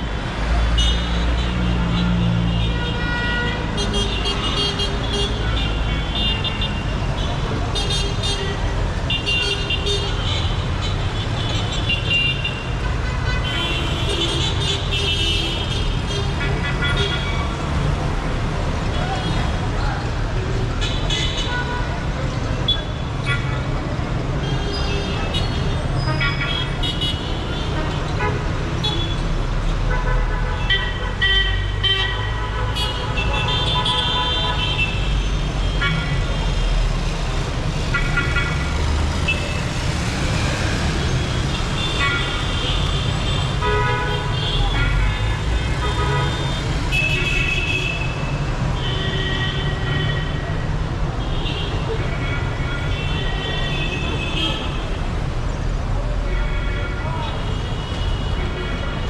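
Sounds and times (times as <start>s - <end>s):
car and motorbike engines rumbling: 0.0s - 59.0s.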